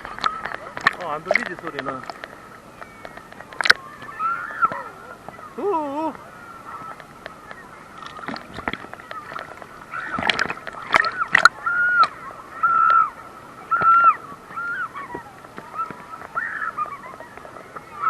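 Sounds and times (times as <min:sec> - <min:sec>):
muffled water sloshing: 0:00.0 - 0:18.0.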